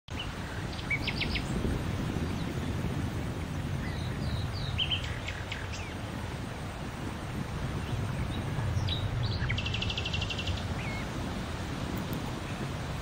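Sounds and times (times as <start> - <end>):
birds chirping: 0.1 - 6.8, 7.6 - 13.0.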